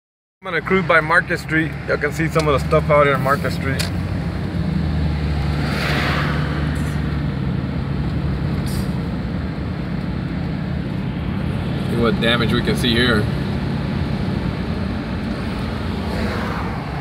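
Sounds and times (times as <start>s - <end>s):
car engine and road noise: 0.4s - 17.0s.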